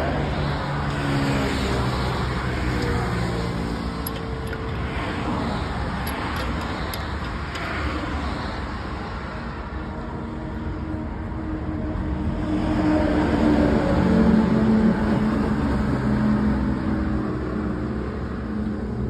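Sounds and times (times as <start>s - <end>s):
road traffic engine noise: 0.0s - 19.0s.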